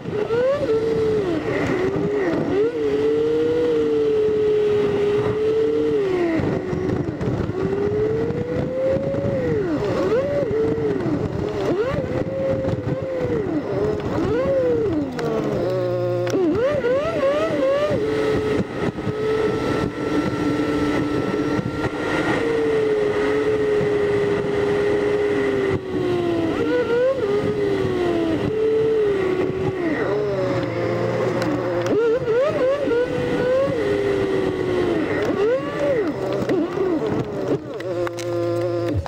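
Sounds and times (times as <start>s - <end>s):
road noise inside car: 0.0s - 39.0s
sped-up engine whine: 0.0s - 39.0s.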